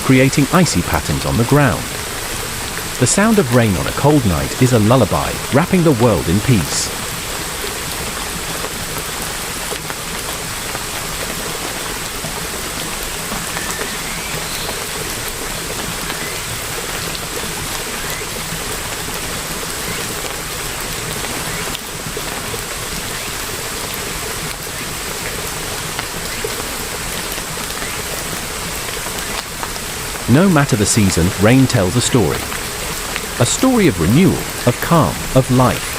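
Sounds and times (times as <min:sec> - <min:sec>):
rain drop ticks: 0:00.0 - 0:35.9
rain pattering: 0:00.0 - 0:35.9.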